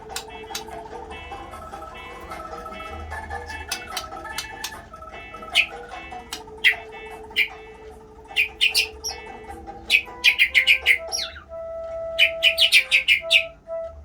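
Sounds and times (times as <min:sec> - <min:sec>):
songbird chirping: 0:00.0 - 0:14.0
sustained music tones: 0:00.0 - 0:14.0.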